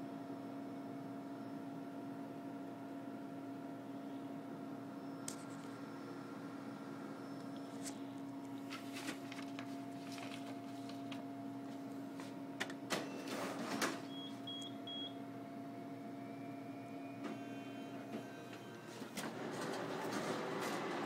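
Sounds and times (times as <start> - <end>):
photocopier humming: 3.6 - 21.0.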